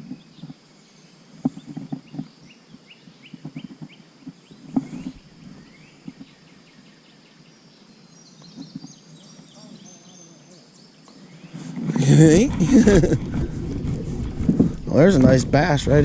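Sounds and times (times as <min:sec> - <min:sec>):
bird chirping: 0:00.0 - 0:15.8.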